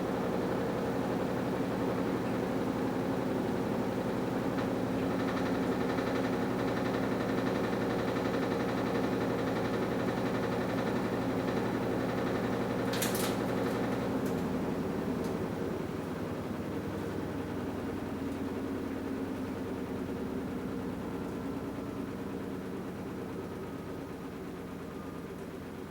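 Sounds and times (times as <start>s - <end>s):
washing machine motor humming: 0.0s - 25.6s.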